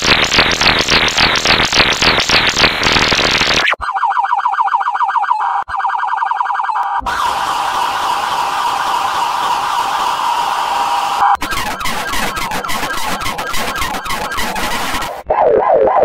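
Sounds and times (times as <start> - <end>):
distorted electronic police siren: 0.0 - 16.0
noisy steady siren tone: 0.0 - 16.0
fast yelping police siren: 2.0 - 16.0.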